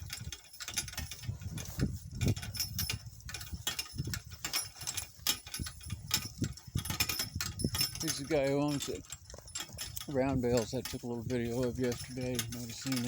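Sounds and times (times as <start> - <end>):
cart rattling and harness jingling: 0.0 - 13.0.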